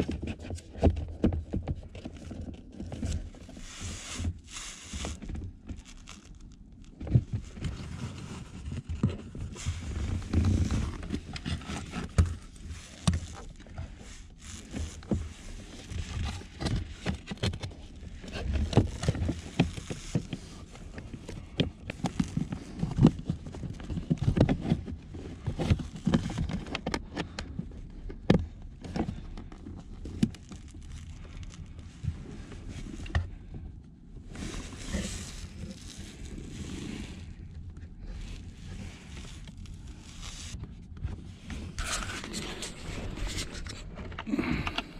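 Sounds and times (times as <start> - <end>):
plastic parts clicking and scraping: 0.0 - 33.4, 34.2 - 44.9
rustling handling noise: 0.1 - 44.9.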